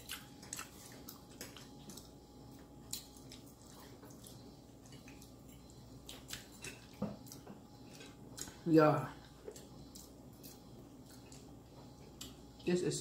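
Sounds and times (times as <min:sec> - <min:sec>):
chewing food: 0:00.0 - 0:12.6
low steady hum: 0:00.0 - 0:13.0.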